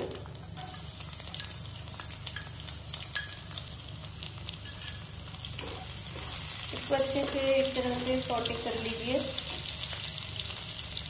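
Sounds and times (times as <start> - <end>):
garlic sizzling in oil: 0.0 - 11.0.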